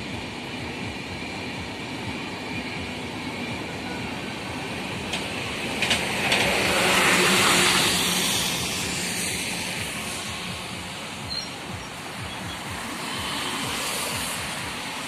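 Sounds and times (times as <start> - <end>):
bus driving past: 0.0 - 15.0
passing train rumble: 0.0 - 15.0.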